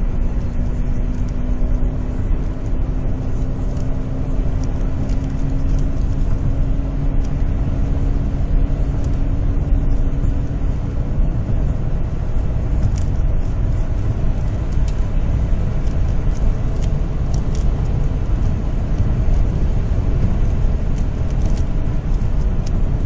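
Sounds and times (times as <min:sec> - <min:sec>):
car hum: 0:00.0 - 0:23.0
road rumble: 0:00.0 - 0:23.0.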